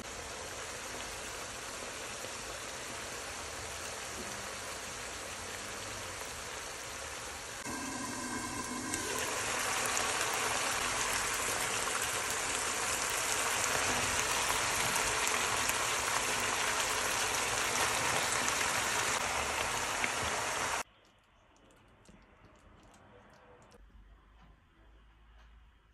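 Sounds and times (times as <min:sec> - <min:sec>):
food sizzling in a wok: 0:00.0 - 0:20.8.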